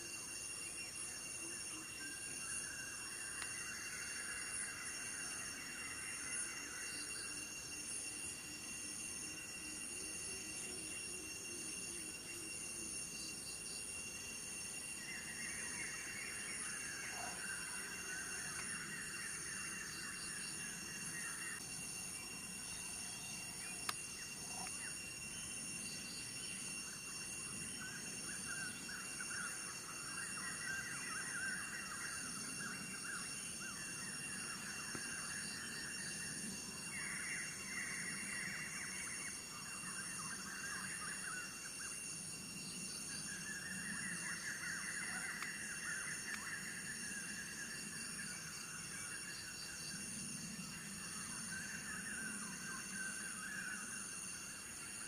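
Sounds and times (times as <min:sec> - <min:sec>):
insects droning with pulsing beat: 0:00.0 - 0:55.0
insects rasping chorus: 0:00.0 - 0:55.0.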